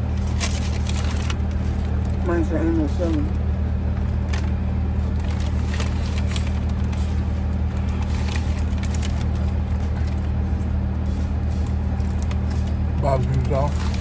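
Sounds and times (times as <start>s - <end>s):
faint clicks and rustles: 0.0s - 2.3s, 2.9s - 14.0s
car cabin engine hum: 0.0s - 14.0s.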